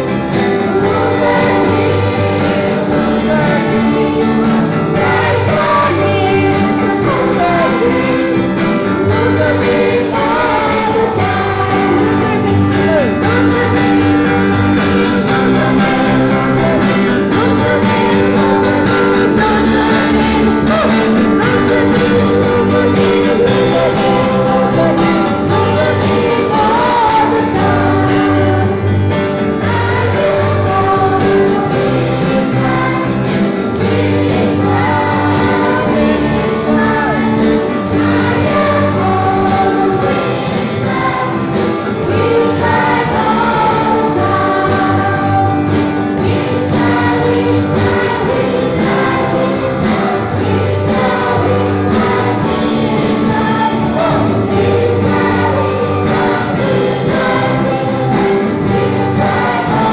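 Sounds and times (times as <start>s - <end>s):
children singing: 0.0s - 59.9s
instrumental backing with bass line: 0.0s - 59.9s.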